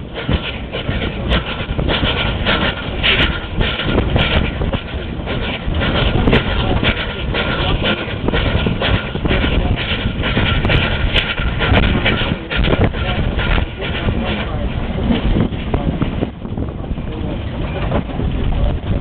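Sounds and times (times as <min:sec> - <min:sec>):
steam tram rumbling on track: 0:00.0 - 0:19.0.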